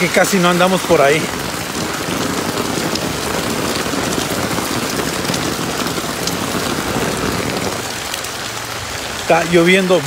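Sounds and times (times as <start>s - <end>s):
heavy rain on umbrella and street: 0.0s - 10.0s.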